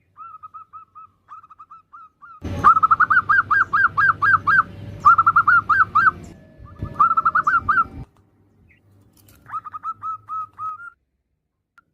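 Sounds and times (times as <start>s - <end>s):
dove calling: 0.0s - 8.1s, 8.7s - 11.0s.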